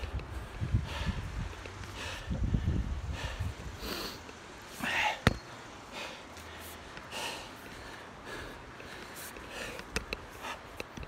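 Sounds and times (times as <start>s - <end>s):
heavy breathing: 0.4s - 10.8s.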